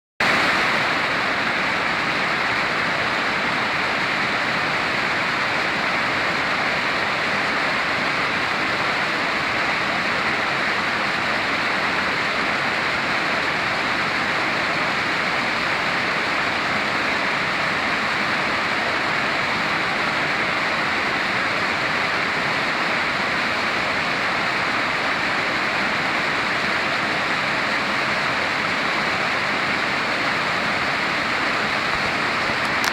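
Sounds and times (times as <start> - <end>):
waterfall rushing: 0.2 - 32.9.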